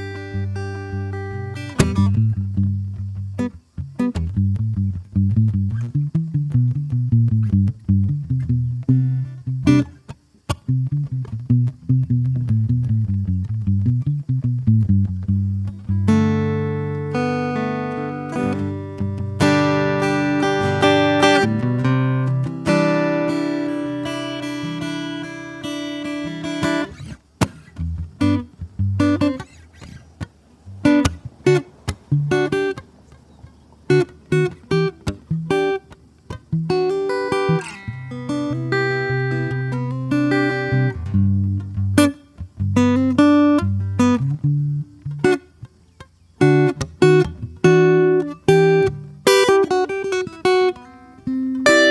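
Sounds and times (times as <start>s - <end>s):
acoustic guitar playing: 0.0s - 51.9s.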